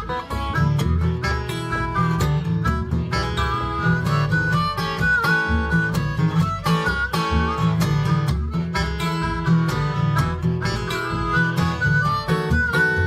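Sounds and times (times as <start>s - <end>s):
fingerpicked acoustic guitar: 0.0s - 13.0s.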